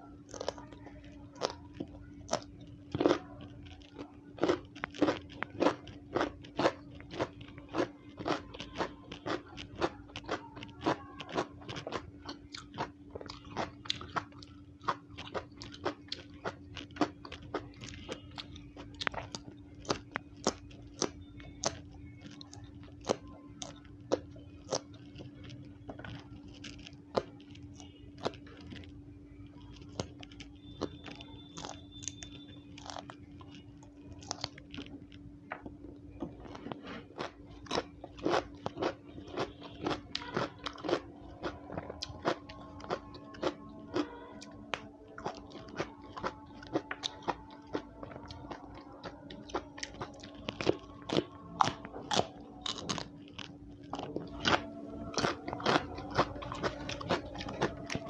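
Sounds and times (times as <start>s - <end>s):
crunching and chewing beans: 0.0s - 58.0s
steady low hum: 0.0s - 58.0s.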